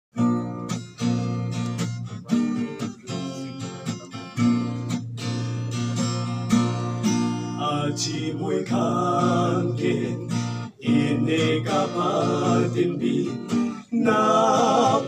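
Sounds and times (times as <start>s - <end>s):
acoustic guitar strumming: 0.1s - 15.0s.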